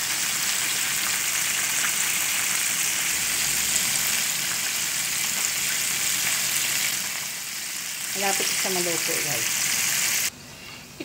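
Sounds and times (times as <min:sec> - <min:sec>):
chicken deep-frying in hot oil: 0:00.0 - 0:10.3.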